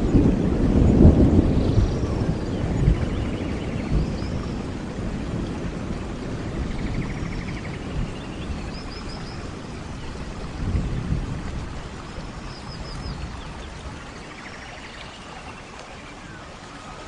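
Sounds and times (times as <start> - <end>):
low thunder rumbling: 0.0 - 16.4
rain hissing: 0.0 - 17.0.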